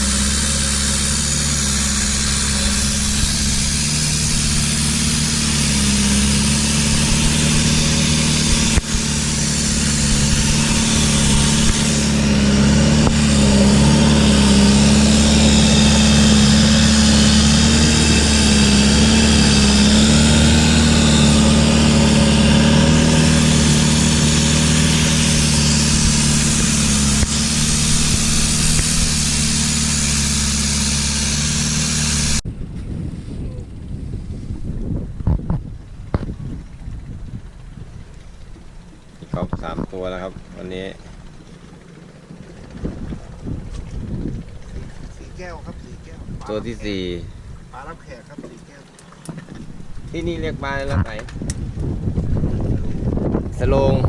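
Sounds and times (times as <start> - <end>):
boat engine running: 0.0 - 54.0
wind and water rushing: 0.0 - 54.0.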